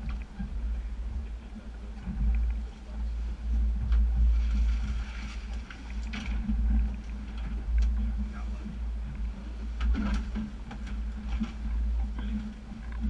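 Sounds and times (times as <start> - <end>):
steady hum: 0.0 - 13.0
wind rumble on microphone: 0.0 - 13.0.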